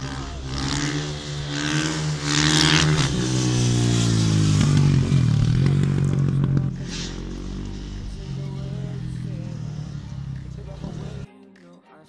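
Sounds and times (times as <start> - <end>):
motorcycle passing at speed: 0.0 - 11.3.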